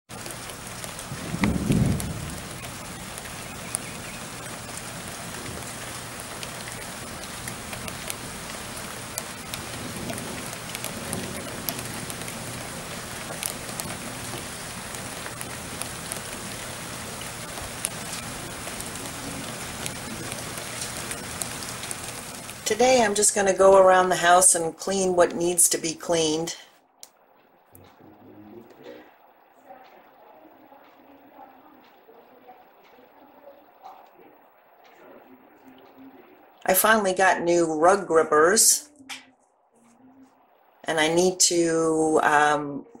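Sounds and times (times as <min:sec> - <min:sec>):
raindrop ticks: 0:00.1 - 0:38.1
steady rain hiss: 0:00.1 - 0:43.0.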